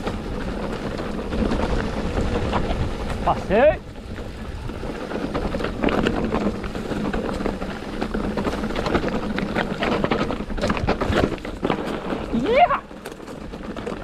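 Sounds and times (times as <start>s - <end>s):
bike rattling: 0.0s - 14.0s
tyres crunching over stones: 0.0s - 14.0s.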